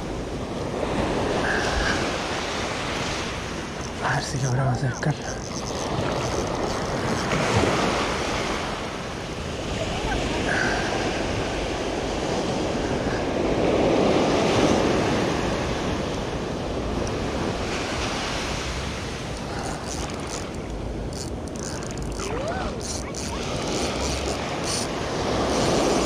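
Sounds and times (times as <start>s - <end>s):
surf on rocky shore: 0.0s - 26.0s.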